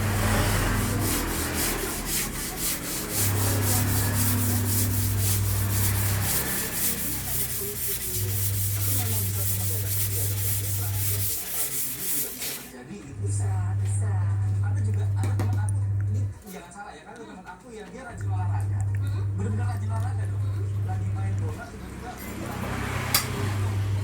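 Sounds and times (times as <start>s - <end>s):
rhythmic rubbing strokes: 0.0s - 15.1s, 18.2s - 23.7s
steady low hum: 0.0s - 16.4s, 18.1s - 22.4s.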